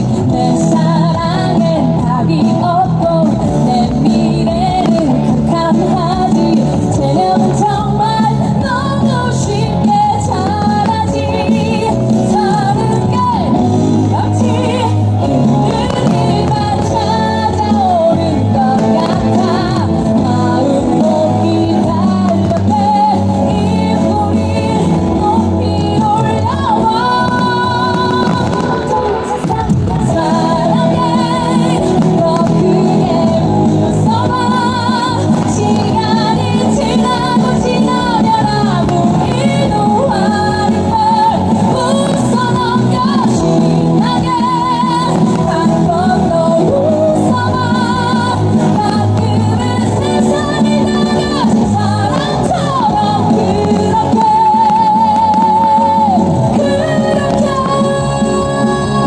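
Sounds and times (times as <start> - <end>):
instrumental backing: 0.0 - 59.0
pop song with singer: 0.0 - 59.0.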